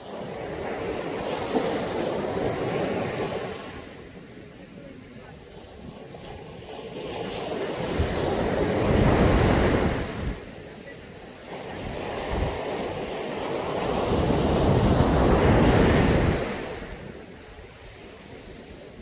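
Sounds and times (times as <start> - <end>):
sea waves breaking on a beach: 0.0 - 19.0.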